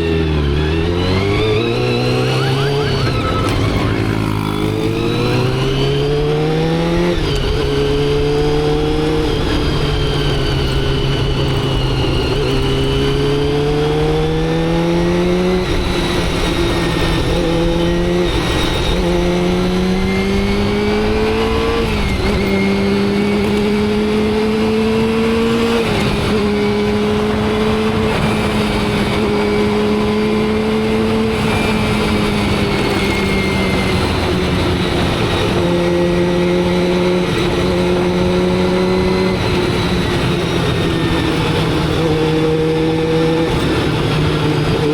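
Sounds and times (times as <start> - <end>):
motorcycle engine shifting gears: 0.0 - 44.9
wind and road noise: 0.0 - 44.9.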